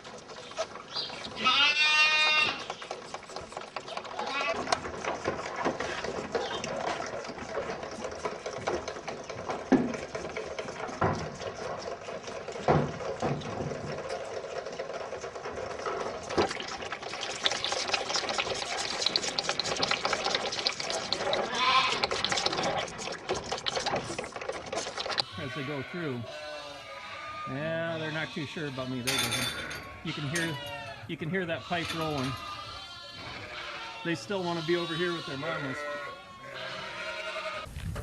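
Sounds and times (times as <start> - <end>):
calves bawling: 0.0 - 37.7.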